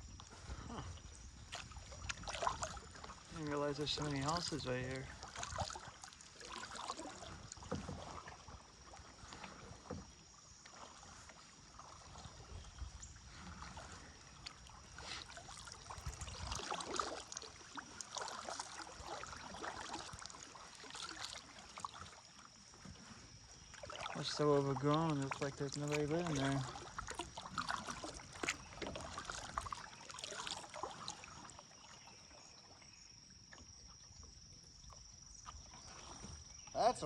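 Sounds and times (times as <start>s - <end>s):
kayak paddle splashing: 0.0s - 37.0s
water dripping off paddle: 0.3s - 32.1s.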